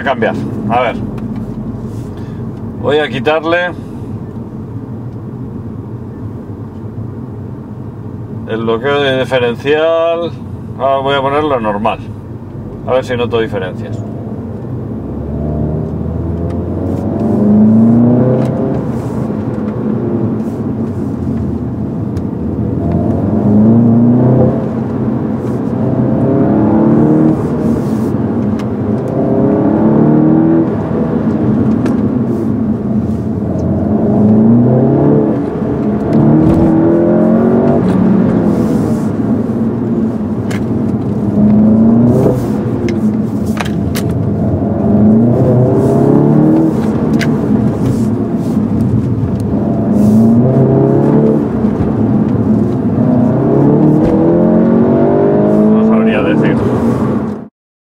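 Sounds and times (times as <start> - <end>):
car engine accelerating: 0.0 - 7.3, 10.8 - 57.5.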